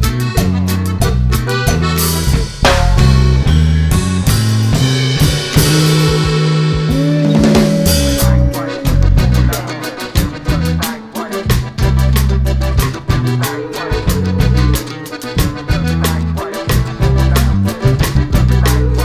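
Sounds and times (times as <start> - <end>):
upbeat instrumental music: 0.0 - 19.0.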